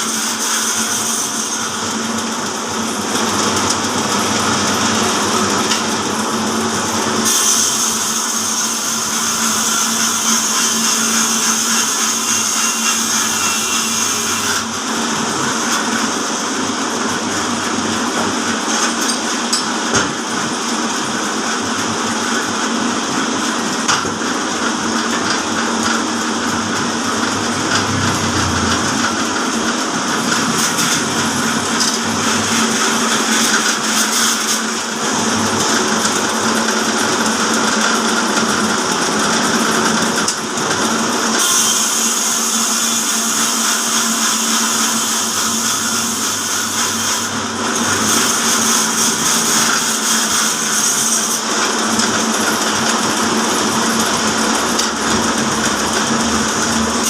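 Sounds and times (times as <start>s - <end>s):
band saw motor hum: 0.0s - 57.0s.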